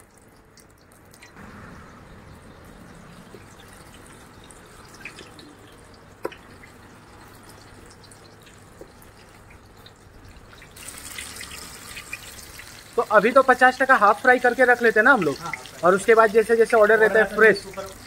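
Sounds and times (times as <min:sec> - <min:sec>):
hot oil sizzling and crackling: 0:02.5 - 0:18.0.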